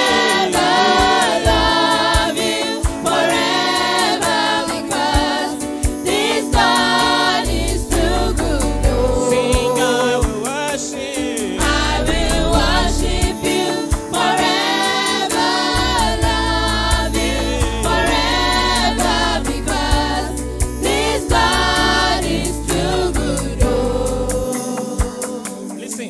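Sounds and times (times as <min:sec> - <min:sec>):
band with bass and percussion: 0:00.0 - 0:26.0
voices singing: 0:00.0 - 0:26.0.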